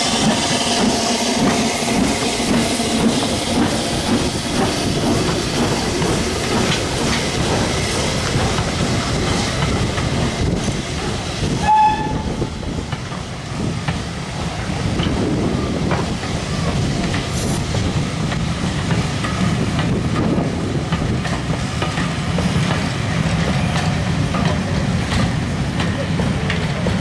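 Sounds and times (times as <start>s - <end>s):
train wheels rumbling and clicking: 0.0s - 27.0s.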